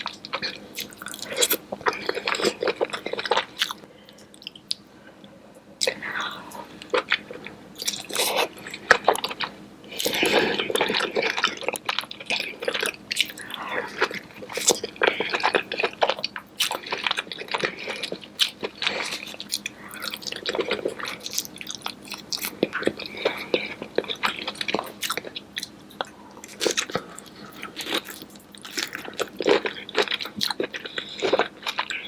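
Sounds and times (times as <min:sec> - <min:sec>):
wet chewing and sucking: 0:05.8 - 0:32.0.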